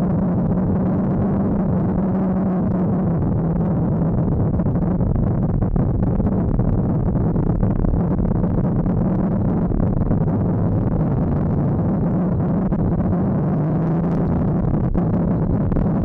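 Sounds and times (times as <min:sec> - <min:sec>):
wind noise: 0:00.0 - 0:16.0.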